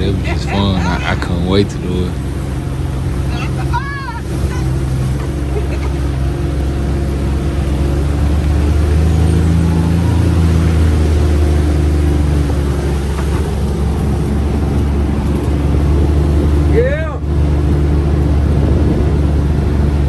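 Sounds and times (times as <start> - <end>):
utv engine running: 0.0 - 20.0.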